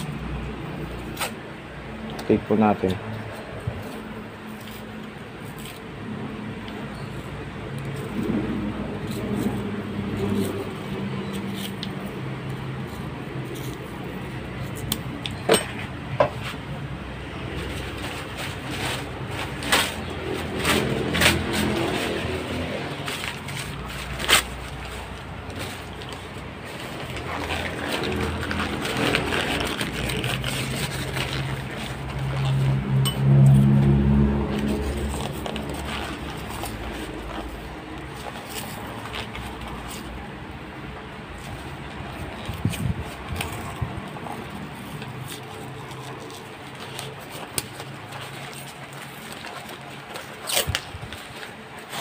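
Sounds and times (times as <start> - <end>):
rag rustling: 9.0 - 33.1, 34.4 - 52.0.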